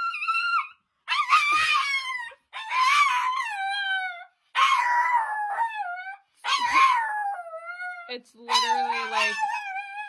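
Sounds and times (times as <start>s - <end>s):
small dog howling: 0.0s - 10.0s.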